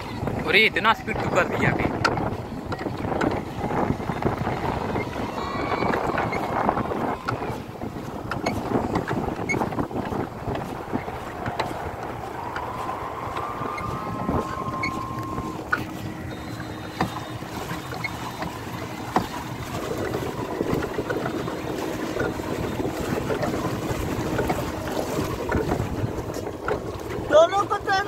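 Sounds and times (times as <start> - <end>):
water splashing against hull: 0.0 - 28.0
wind buffeting microphone: 0.0 - 28.0.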